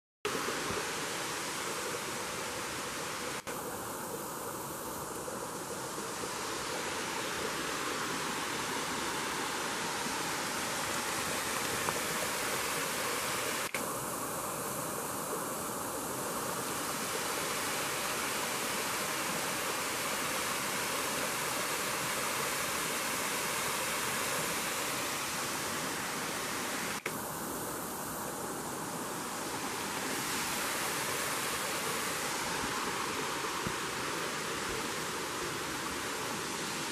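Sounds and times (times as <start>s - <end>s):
waterfall and brook rushing: 0.3s - 36.9s.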